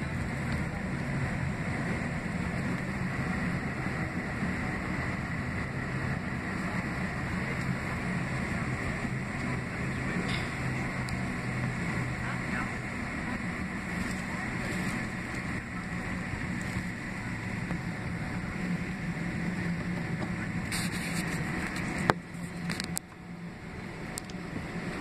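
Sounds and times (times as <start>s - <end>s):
jet engine hum with high whine: 0.0s - 25.0s.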